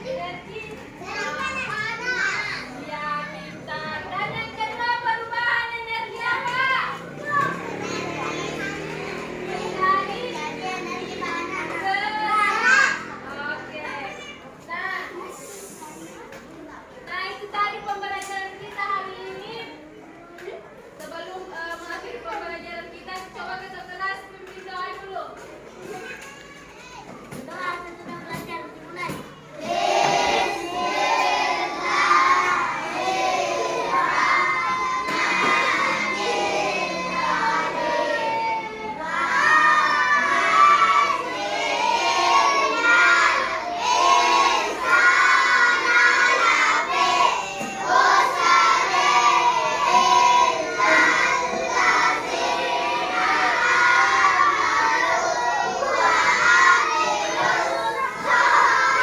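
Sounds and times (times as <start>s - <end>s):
children singing and shouting: 0.0s - 59.0s.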